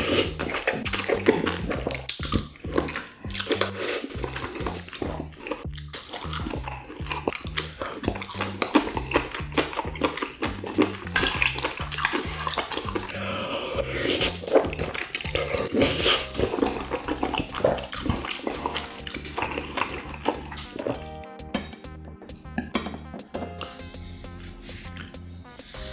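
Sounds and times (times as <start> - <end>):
wet chewing and slurping: 0.0 - 21.3, 22.2 - 25.9
background music with bass line: 0.0 - 25.9.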